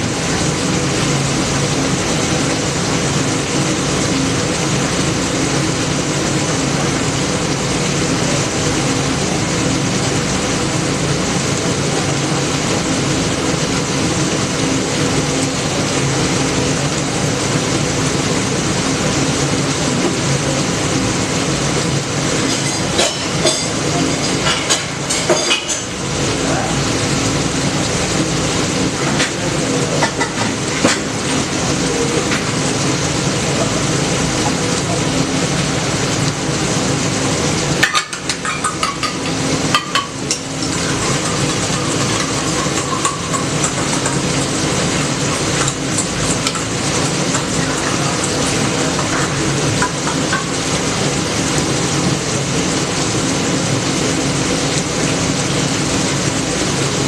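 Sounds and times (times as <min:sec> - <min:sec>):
food sizzling in a pan: 0:00.1 - 0:57.0.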